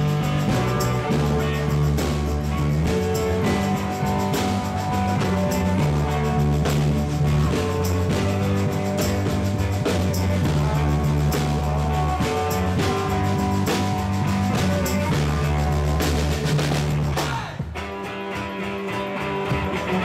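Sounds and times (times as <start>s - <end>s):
bass guitar: 0.0s - 20.0s
drum kit beat: 0.0s - 20.0s
electric guitar: 0.0s - 20.0s.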